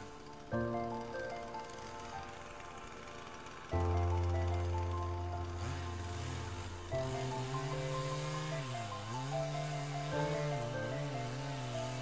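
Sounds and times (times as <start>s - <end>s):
background music of sustained tones: 0.0s - 12.0s.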